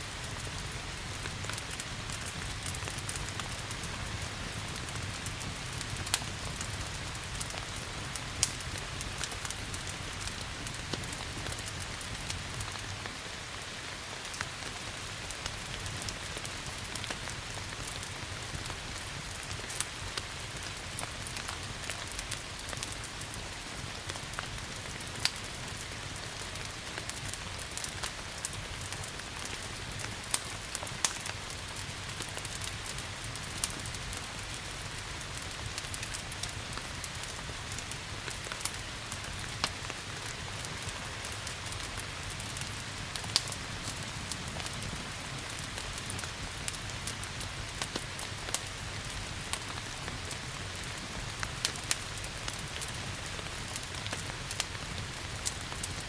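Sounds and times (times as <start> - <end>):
rain hiss: 0.0 - 56.0
wood fire crackling and popping: 0.1 - 56.0.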